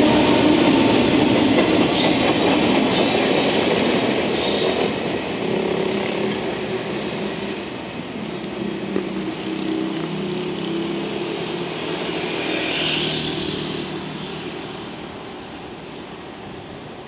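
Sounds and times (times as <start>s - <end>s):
electric freight train rumbling: 0.0s - 17.0s.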